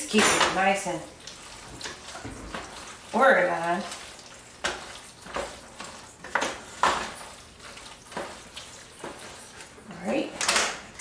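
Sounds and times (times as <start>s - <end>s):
wooden spoon scraping a pot: 0.1s - 10.3s.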